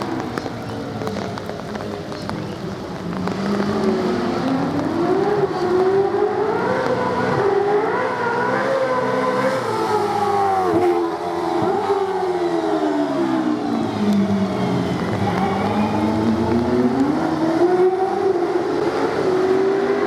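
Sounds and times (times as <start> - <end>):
car engine running hard: 0.0 - 20.0.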